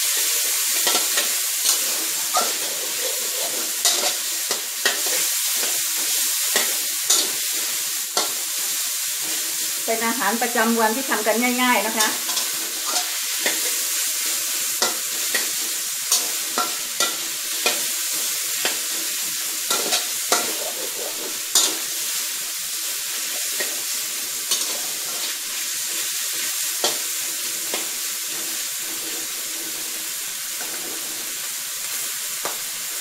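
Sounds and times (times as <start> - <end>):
metal spatula scraping a wok: 0.0 - 22.4, 23.0 - 32.0
meat sizzling in hot oil: 0.0 - 33.0.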